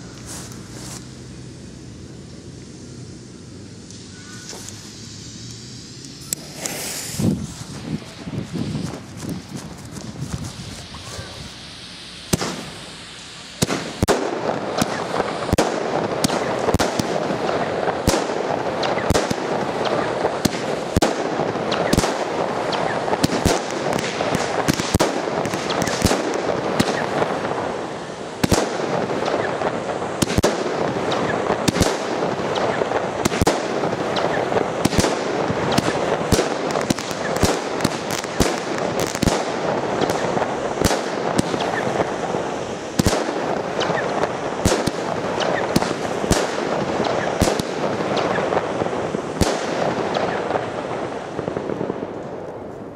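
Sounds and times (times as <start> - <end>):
fireworks bangs: 0.0 - 52.9
fireworks hissing: 0.0 - 52.9.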